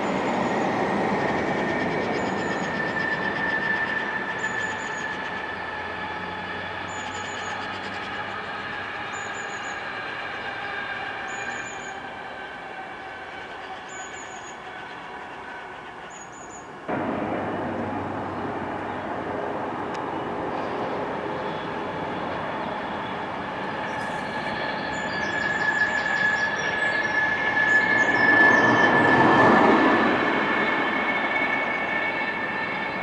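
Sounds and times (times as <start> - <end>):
electric train whine: 0.0 - 33.0
train rushing noise: 0.0 - 33.0.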